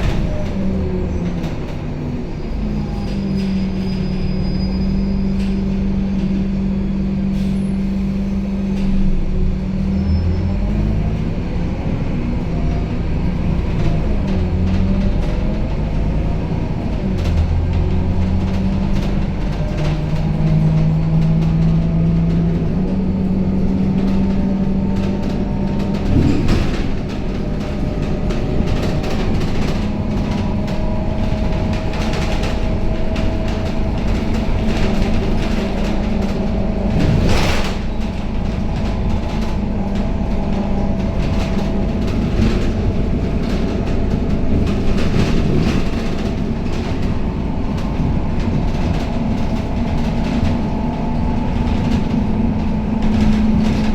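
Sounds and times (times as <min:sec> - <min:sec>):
bus diesel engine humming: 0:00.0 - 0:53.9.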